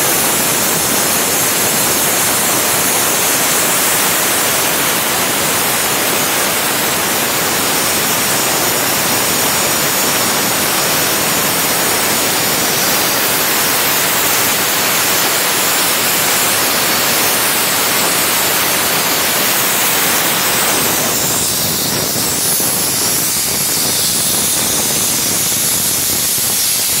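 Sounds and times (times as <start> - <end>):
waterjet cutter hissing: 0.0 - 27.0.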